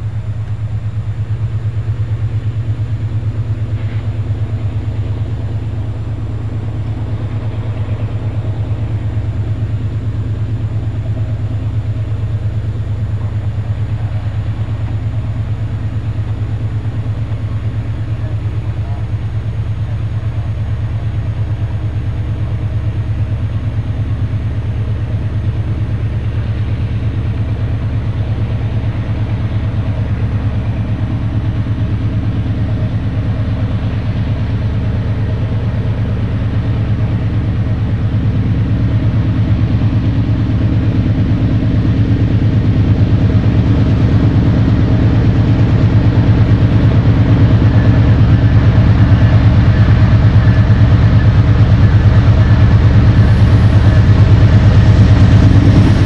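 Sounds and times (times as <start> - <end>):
diesel locomotive engine throbbing: 0.0 - 56.0.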